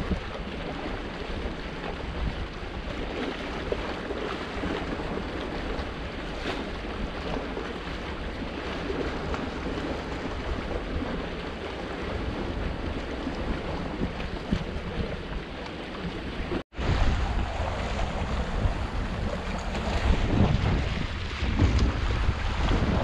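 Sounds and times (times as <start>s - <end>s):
waves splashing against rocks: 0.0s - 23.0s
wind buffeting microphone: 0.0s - 23.0s.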